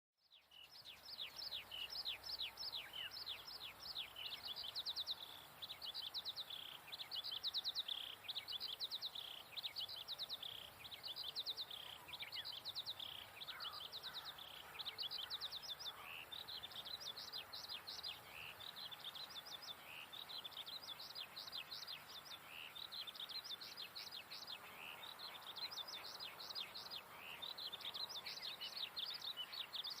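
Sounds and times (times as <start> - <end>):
songbird trilling: 0.4 - 30.0.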